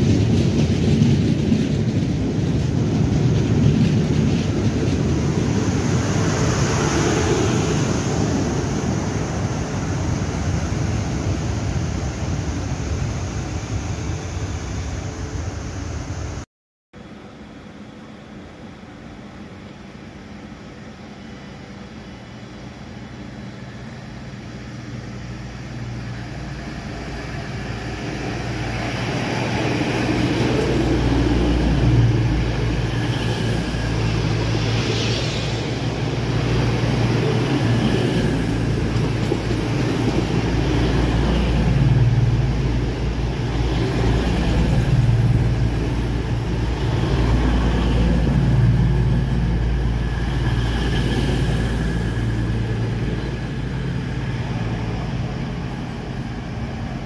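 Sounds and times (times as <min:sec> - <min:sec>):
train rumbling past: 0:00.0 - 0:16.4, 0:17.0 - 0:57.0.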